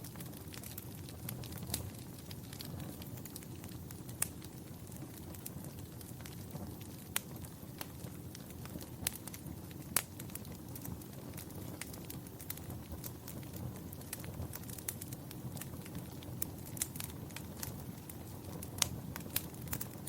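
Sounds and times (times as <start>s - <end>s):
fire crackles and pops: 0.0s - 20.0s
low rumble of flames: 0.0s - 20.0s.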